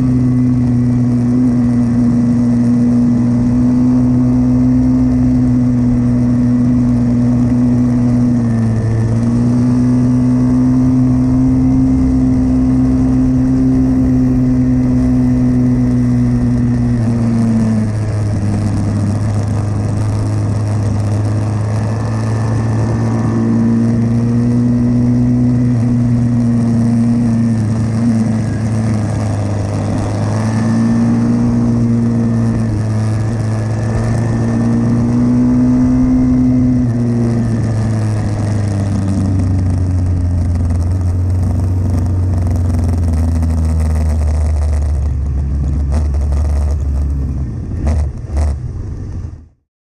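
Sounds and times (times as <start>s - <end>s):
motorbike engine running hard: 0.0s - 49.6s.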